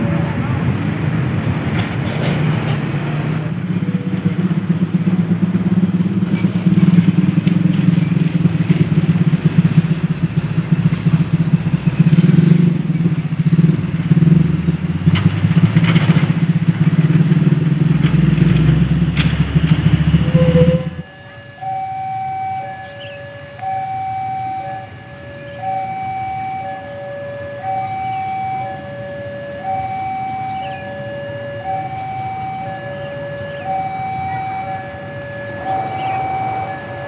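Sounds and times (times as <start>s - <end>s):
deep engine rumble: 0.0s - 37.0s
vehicle engines running: 0.0s - 37.0s.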